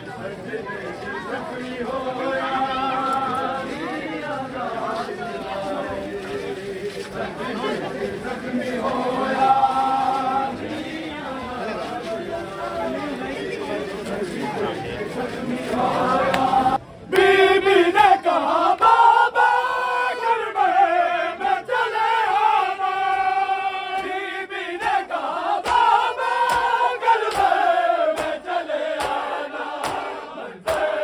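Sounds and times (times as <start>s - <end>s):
men chanting in unison: 0.0s - 31.0s.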